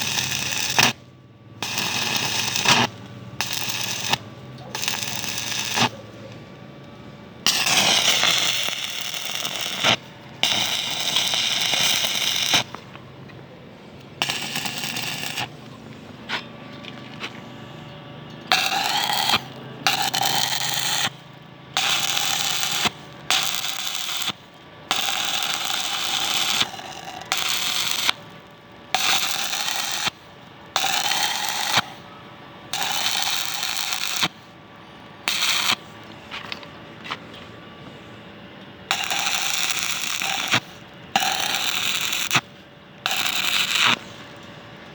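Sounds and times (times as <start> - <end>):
arc welding crackling and hissing: 0.0 - 44.9.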